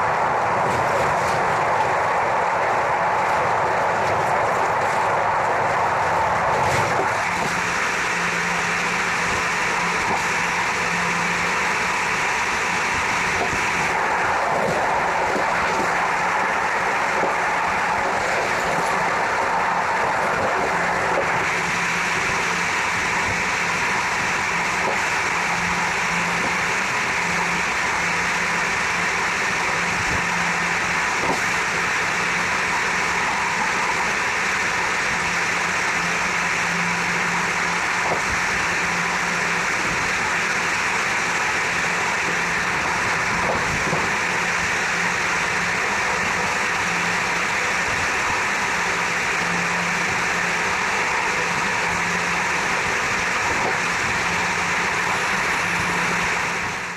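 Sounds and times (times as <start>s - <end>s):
train rushing on rails: 0.0s - 56.9s.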